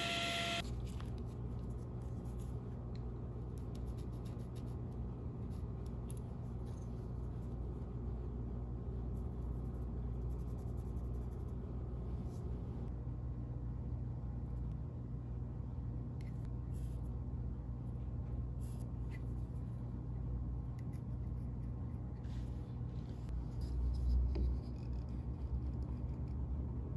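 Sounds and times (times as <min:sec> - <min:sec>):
low background hum: 0:00.0 - 0:26.9.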